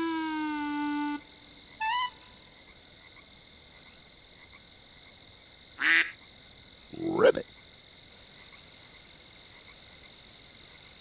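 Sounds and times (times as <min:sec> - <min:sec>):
frog croak: 0:00.5 - 0:11.0.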